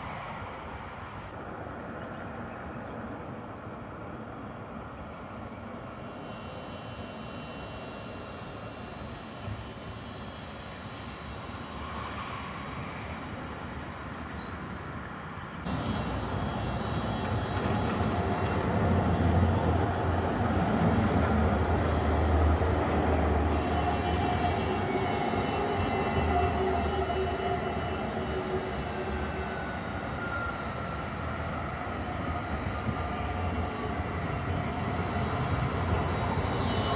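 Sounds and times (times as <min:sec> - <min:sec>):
tram rolling on rails: 0:00.0 - 0:36.9.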